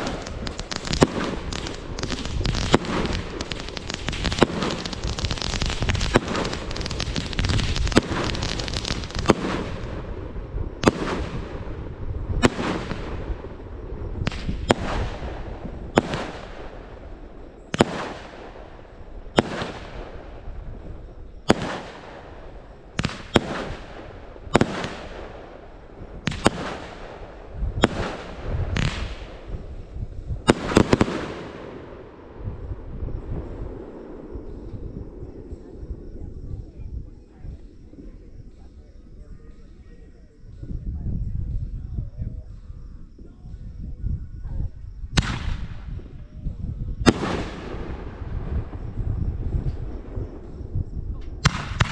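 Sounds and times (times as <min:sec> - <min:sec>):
fireworks crackling and banging: 0:00.0 - 0:38.7, 0:45.2 - 0:51.9.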